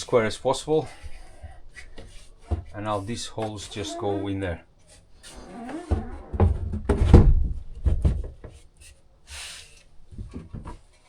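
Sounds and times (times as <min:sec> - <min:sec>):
wooden knocks and scrapes: 0:00.0 - 0:11.0.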